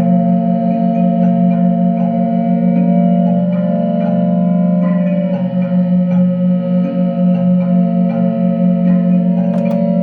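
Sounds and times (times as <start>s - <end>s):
low drone music: 0.0s - 10.0s.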